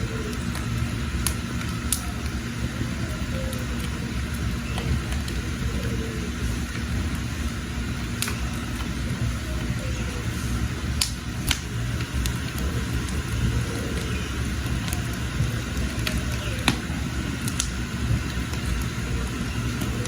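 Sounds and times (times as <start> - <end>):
wood crackling and popping: 0.0 - 20.0
wood fire rumbling: 0.0 - 20.0.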